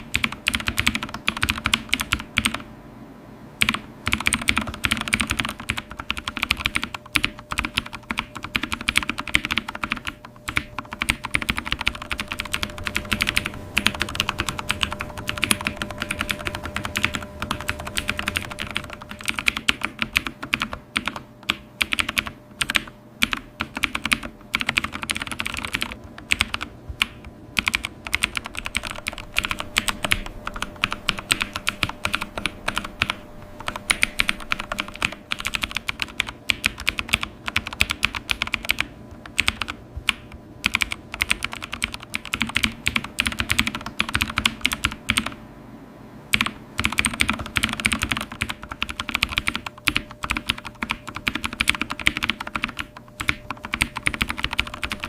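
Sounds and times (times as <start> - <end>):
typing on computer keyboard: 0.0 - 2.7, 3.6 - 45.4, 46.3 - 55.0.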